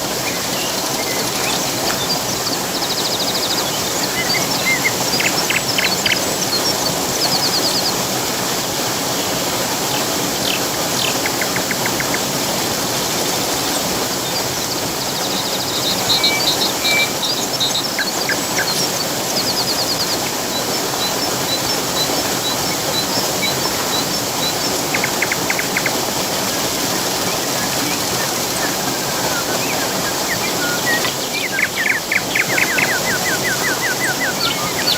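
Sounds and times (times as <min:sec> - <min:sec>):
small birds trilling and chirping: 0:00.0 - 0:34.9
waterfall rushing: 0:00.0 - 0:34.9.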